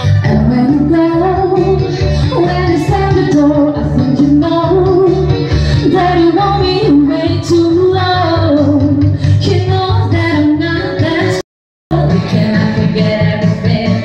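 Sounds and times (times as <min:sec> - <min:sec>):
backing track with bass line: 0:00.0 - 0:14.0
woman singing: 0:00.2 - 0:14.0.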